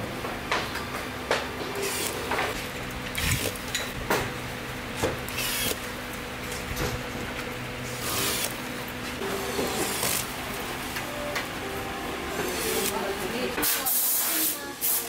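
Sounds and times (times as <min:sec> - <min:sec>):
machine hum: 0:00.0 - 0:13.7.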